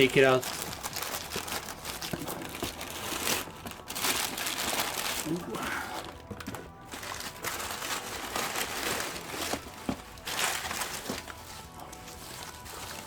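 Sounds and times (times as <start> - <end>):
paper and plastic crinkling: 0.0 - 13.0.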